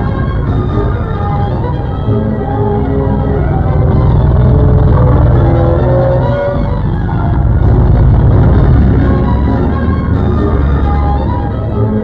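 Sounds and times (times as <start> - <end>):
orchestral music: 0.0 - 12.0
truck engine running under load: 0.0 - 12.0.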